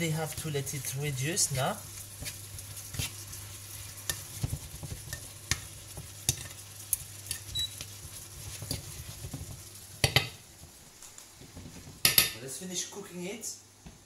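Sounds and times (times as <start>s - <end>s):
apple pieces sizzling in caramel: 0.0s - 13.3s.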